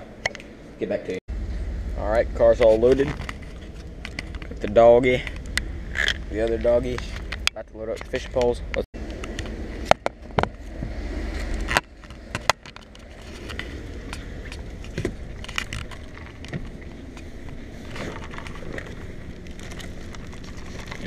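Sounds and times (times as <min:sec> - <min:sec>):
low rubbing rumble: 0:00.0 - 0:21.0
fishing gear clicking and rattling: 0:02.6 - 0:21.0.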